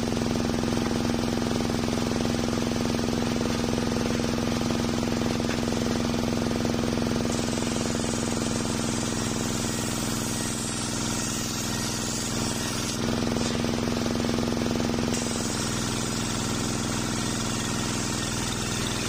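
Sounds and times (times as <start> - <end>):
circular sawmill cutting log: 0.0 - 19.0.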